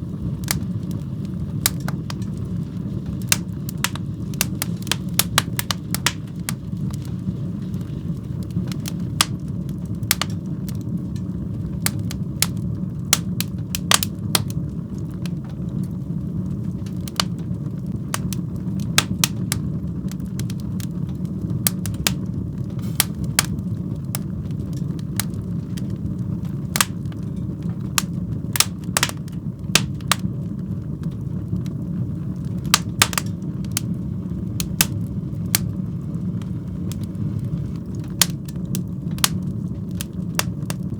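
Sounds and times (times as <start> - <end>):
fire crackling and popping: 0.0 - 40.9
flames rumbling in fireplace: 0.0 - 40.9.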